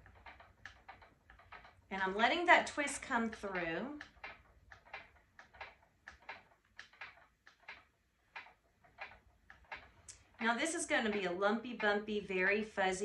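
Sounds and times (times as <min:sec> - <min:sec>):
spinning wheel ticking: 0:00.0 - 0:13.0.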